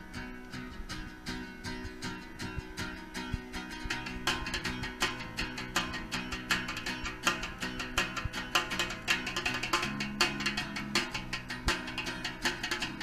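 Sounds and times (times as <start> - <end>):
acoustic guitar strumming: 0.0 - 13.0
bass: 0.0 - 13.0
percussion: 0.0 - 13.0.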